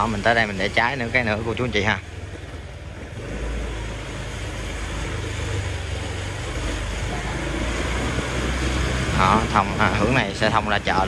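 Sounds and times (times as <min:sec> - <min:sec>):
motorbike engine running: 0:00.0 - 0:11.0
road noise: 0:00.0 - 0:11.0.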